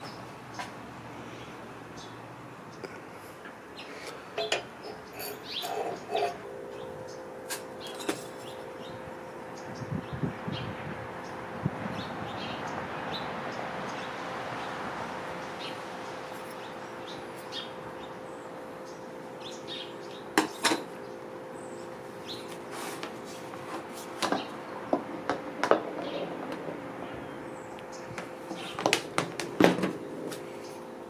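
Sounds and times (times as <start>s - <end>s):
steady hum: 0.0s - 31.0s
birds chirping: 3.7s - 22.8s, 24.3s - 29.2s, 29.9s - 31.0s.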